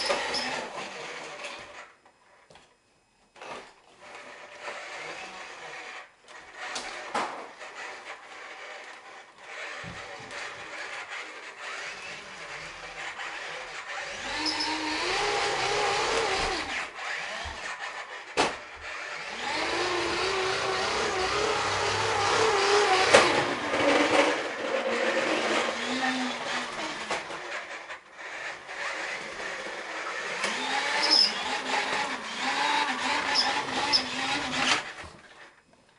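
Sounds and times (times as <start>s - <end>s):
toy motor whirring: 0.0s - 1.9s, 4.0s - 35.5s.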